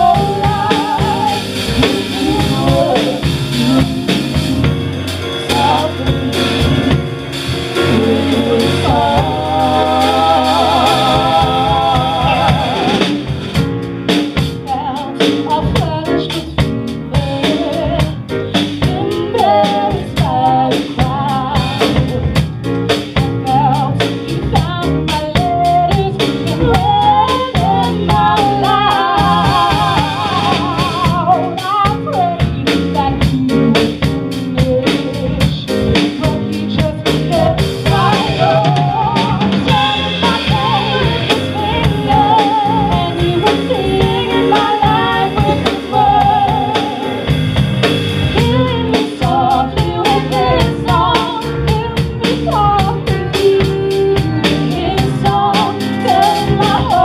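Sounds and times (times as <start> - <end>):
woman singing with vibrato: 0.0 - 7.0, 7.7 - 13.3, 14.6 - 47.4, 48.3 - 57.0
drum kit beat: 0.0 - 57.0
piano: 0.0 - 57.0.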